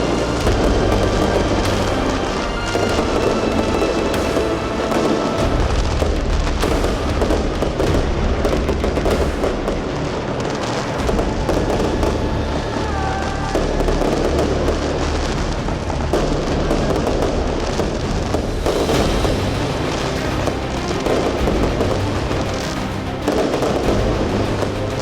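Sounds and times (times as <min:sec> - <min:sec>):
firework whistling: 0:00.0 - 0:24.2
fireworks bangs and crackling: 0:00.0 - 0:25.0.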